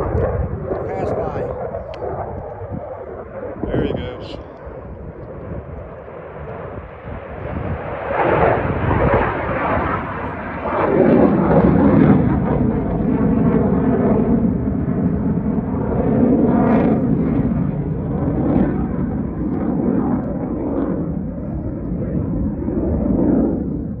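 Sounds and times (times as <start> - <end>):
jet fighters flying past: 0.0 - 24.0.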